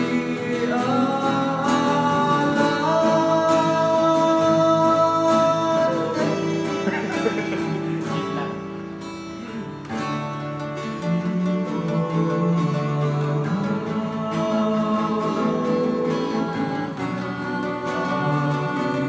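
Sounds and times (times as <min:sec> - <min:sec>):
acoustic guitar: 0:00.0 - 0:19.0
person singing: 0:00.0 - 0:19.0.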